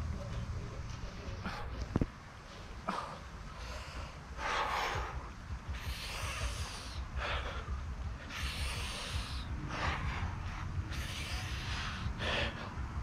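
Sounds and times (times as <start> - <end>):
man breathing heavily: 1.2 - 13.0.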